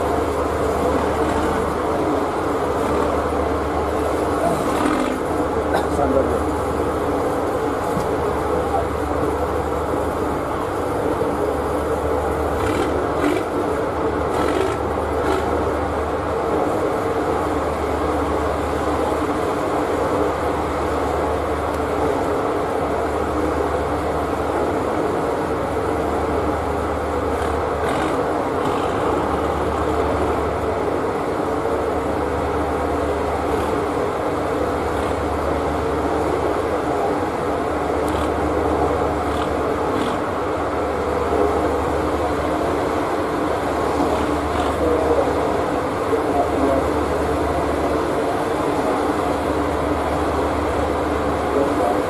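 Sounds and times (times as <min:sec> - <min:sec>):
ship engines droning: 0:00.0 - 0:52.0.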